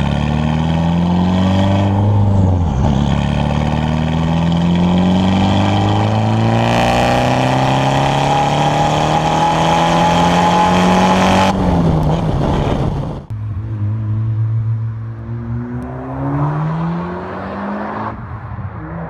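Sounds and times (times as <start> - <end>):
car engine revving under load: 0.0 - 19.0.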